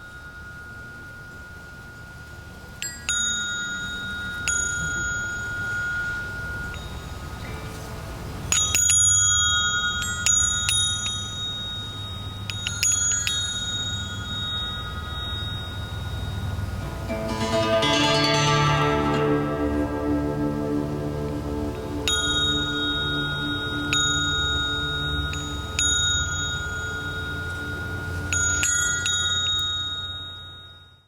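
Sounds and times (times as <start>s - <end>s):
small metal chimes ringing: 0.0s - 19.9s, 21.8s - 31.0s.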